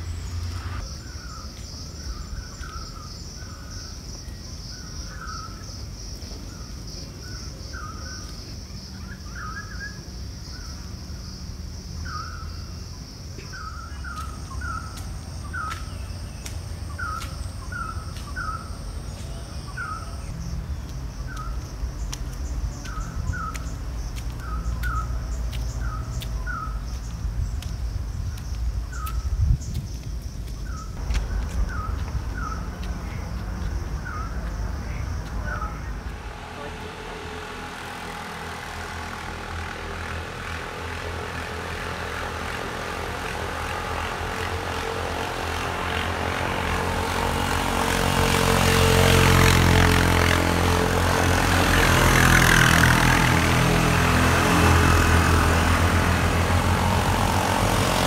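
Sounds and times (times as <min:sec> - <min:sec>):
birds calling: 0:00.0 - 0:10.9, 0:12.0 - 0:58.0.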